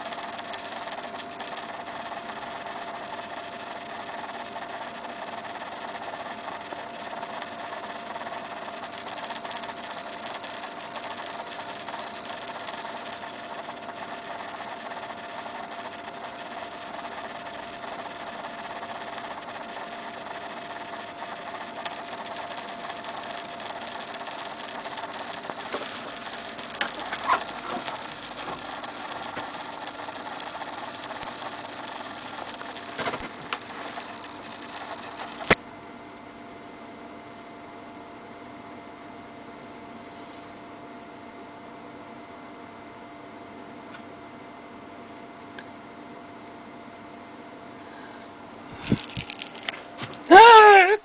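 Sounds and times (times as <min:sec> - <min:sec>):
machine hum with faint whine: 0:00.0 - 0:51.0.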